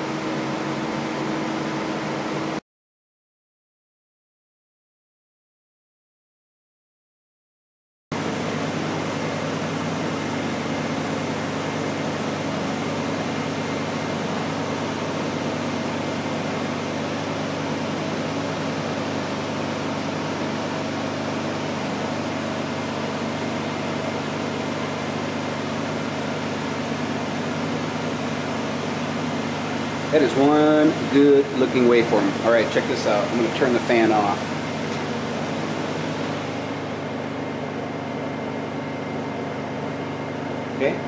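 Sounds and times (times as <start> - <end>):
generator droning: 0.0 - 2.6, 8.2 - 41.0.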